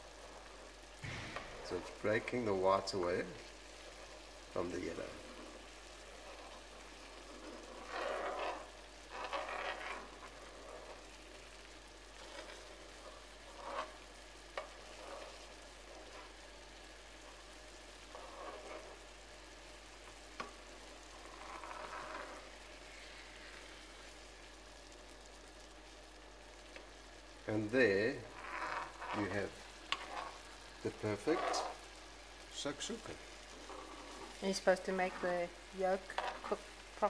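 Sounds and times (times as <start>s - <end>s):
eggs sizzling in a frying pan: 0.0s - 37.0s.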